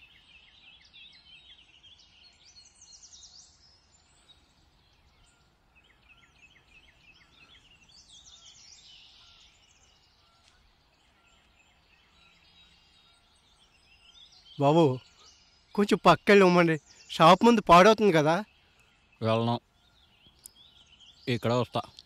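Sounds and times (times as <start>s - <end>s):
faint bird chirping: 0.0s - 22.0s
outdoor background noise: 0.0s - 22.0s.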